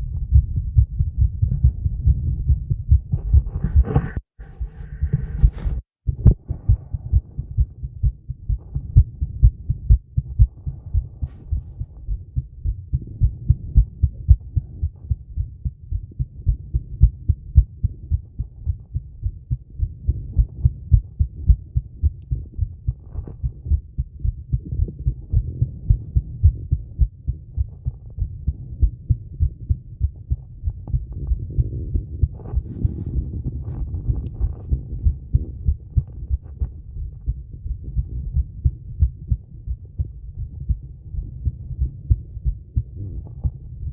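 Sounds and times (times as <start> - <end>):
heartbeat thumps: 0.0 - 43.9.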